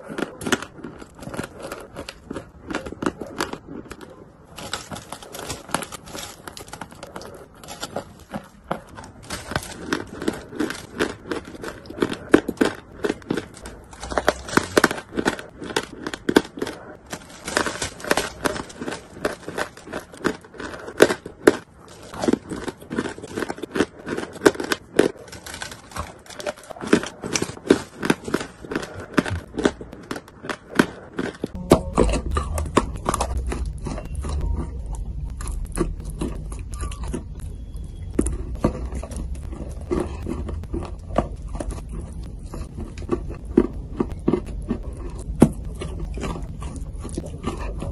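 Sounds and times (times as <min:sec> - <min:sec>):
chalk crunching while chewed: 0:00.0 - 0:47.9
steady low hum: 0:00.0 - 0:47.9.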